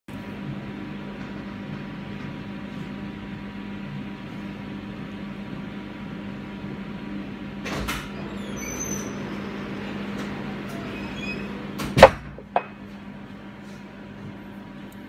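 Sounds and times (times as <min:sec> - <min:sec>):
mechanical hum: 0:00.1 - 0:15.0.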